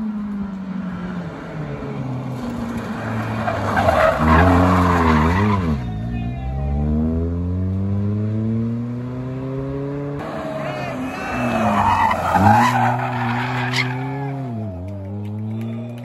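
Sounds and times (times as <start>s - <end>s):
rally car engine revving: 0.0s - 16.0s
car accelerating away: 0.2s - 16.0s.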